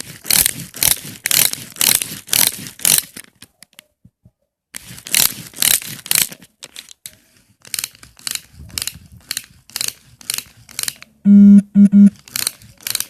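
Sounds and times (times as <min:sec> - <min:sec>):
toy gear mechanism rasping and clicking: 0:00.0 - 0:03.8, 0:04.7 - 0:11.2, 0:12.1 - 0:13.0.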